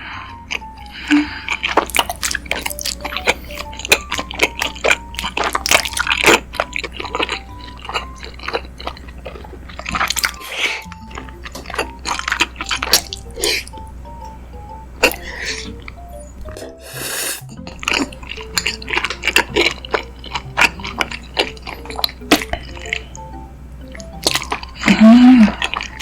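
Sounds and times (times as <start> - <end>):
close chewing mouth sounds: 0.0 - 14.2, 15.0 - 16.7, 17.4 - 26.0
soft background music: 0.0 - 26.0.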